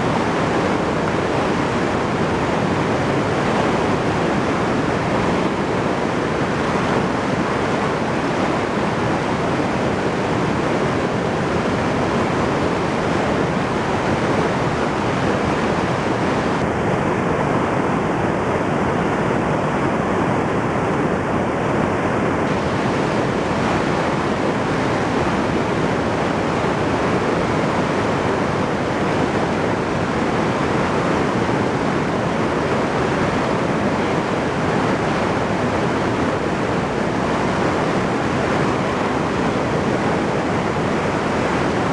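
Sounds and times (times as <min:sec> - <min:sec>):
flooded river rushing: 0:00.0 - 0:41.9.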